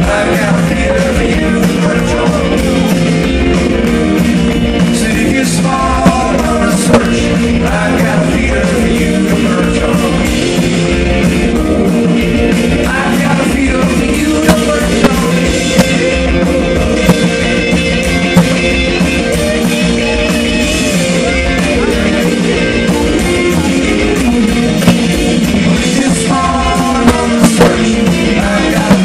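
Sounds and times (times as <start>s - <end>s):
person singing: 0.0s - 4.1s, 4.7s - 18.4s, 19.0s - 29.0s
live rock band playing: 0.0s - 29.0s.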